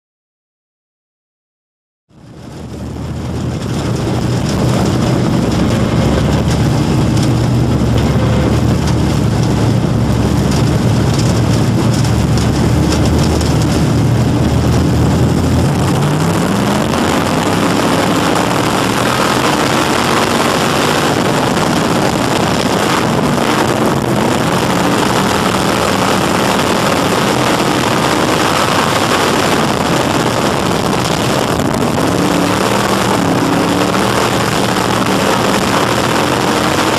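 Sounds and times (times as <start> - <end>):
race car engine revving: 2.1 - 36.9.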